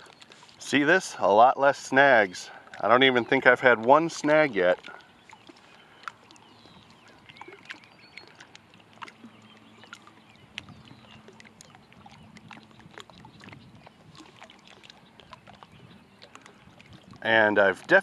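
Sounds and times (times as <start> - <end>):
small waves lapping on rocks: 1.9 - 18.0.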